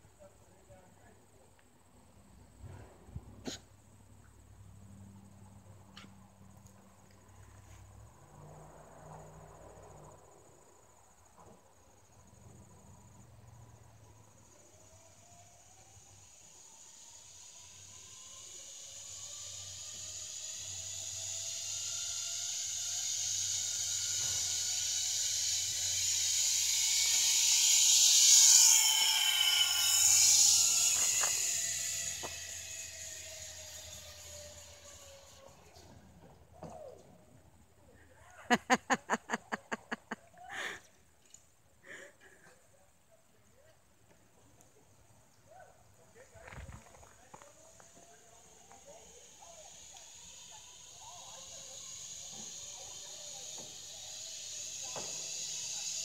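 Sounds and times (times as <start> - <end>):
zip line trolley whirring on cable: 4.3 - 42.6, 43.6 - 56.0.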